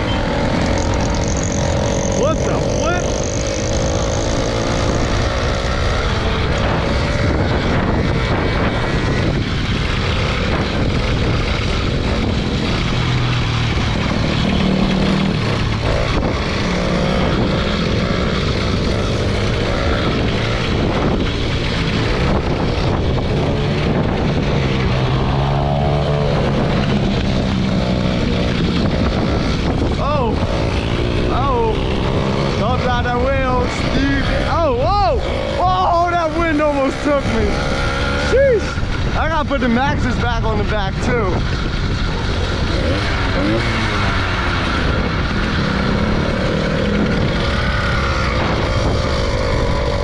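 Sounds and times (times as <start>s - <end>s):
small motorbike engine revving: 0.0s - 39.0s, 41.4s - 50.0s.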